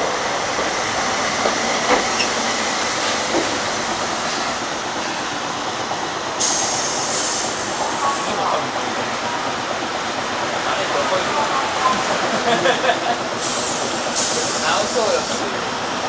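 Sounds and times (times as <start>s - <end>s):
tram wheels and motors rumbling: 0.0s - 16.0s.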